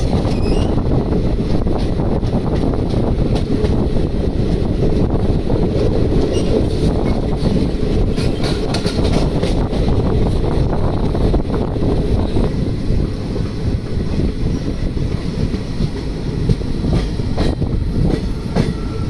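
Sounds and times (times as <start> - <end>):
train wheels rumbling on rails: 0.0 - 19.0
wind on microphone: 0.0 - 19.0.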